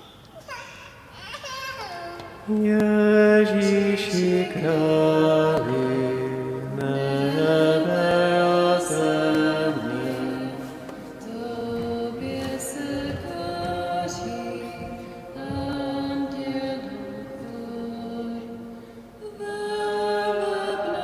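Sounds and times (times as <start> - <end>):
congregation singing a hymn: 2.5 - 21.0.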